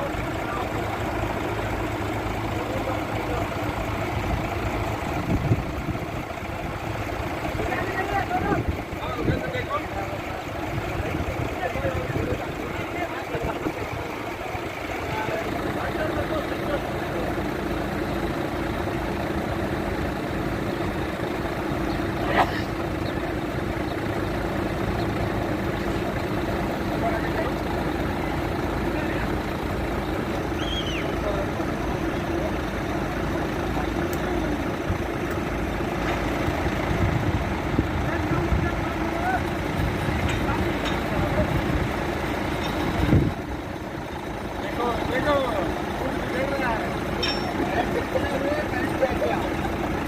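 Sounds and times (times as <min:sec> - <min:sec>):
truck engine idling: 0:00.0 - 0:50.0.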